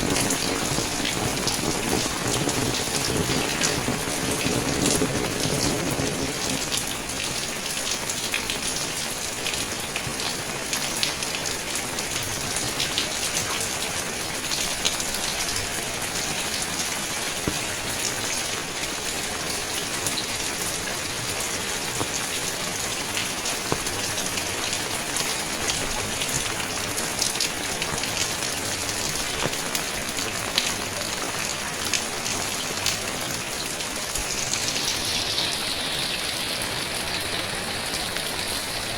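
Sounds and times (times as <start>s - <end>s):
sharp ticks of raindrops: 0.0s - 38.9s
steady rain falling: 0.0s - 38.9s.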